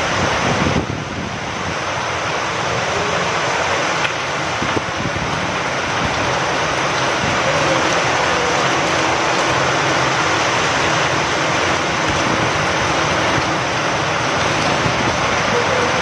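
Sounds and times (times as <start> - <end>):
rain hissing: 0.0 - 16.0
wind: 0.0 - 16.0.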